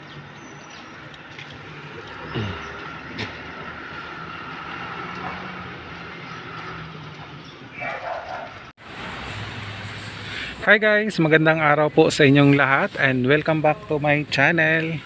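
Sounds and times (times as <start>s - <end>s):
road traffic engine noise: 0.0s - 15.0s.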